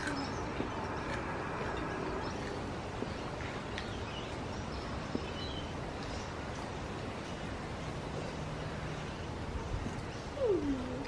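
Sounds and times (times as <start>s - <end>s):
steady background hiss: 0.1s - 11.0s.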